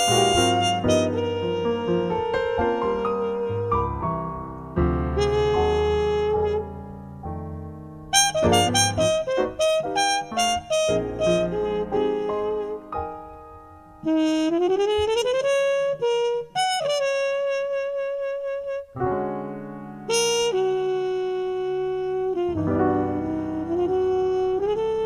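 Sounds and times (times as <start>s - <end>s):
saxophone: 0.0s - 7.2s, 8.1s - 13.4s, 14.0s - 25.0s
bass: 0.0s - 18.2s, 18.8s - 25.0s
piano chords: 0.0s - 25.0s.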